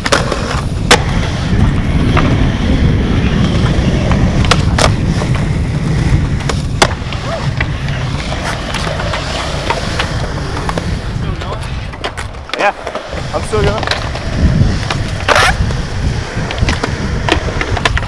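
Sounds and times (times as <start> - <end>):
skateboard popping and landing clacks: 0.0 - 2.5, 3.4 - 5.6, 6.2 - 15.8, 16.4 - 18.0
skateboard wheels rolling on concrete: 0.0 - 18.0.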